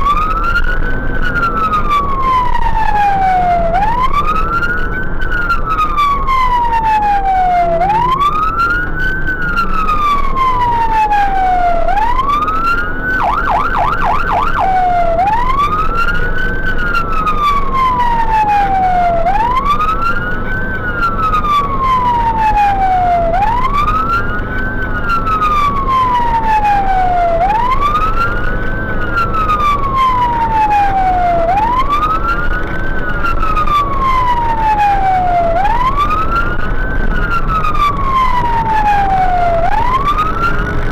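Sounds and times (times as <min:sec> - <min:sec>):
engine and road rumble: 0:00.0 - 0:40.9
fire engine siren wailing: 0:00.0 - 0:40.9.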